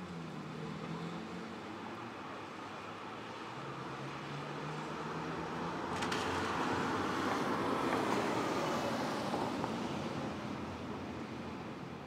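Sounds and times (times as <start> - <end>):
traffic on wet streets: 0.0 - 12.0.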